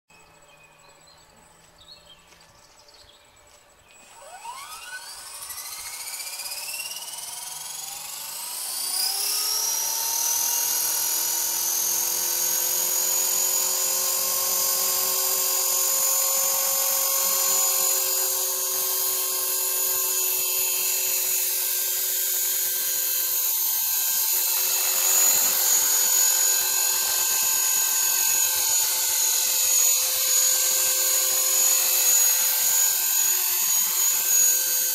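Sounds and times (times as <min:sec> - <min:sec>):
model helicopter rotor whine: 0:03.7 - 0:34.9.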